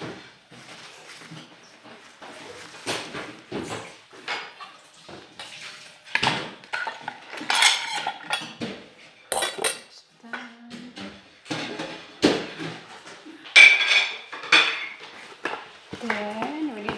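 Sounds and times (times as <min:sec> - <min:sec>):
dishes and cutlery clinking: 0:00.0 - 0:16.9.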